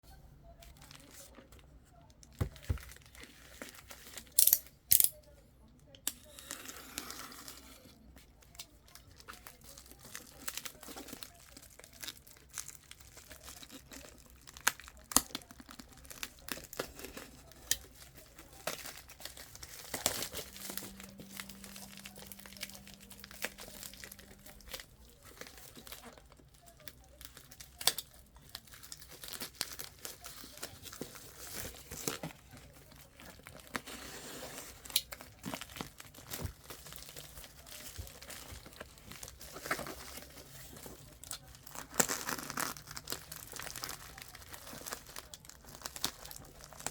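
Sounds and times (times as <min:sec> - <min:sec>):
plastic packaging crinkling and tearing: 0:00.5 - 0:05.3, 0:06.0 - 0:46.9.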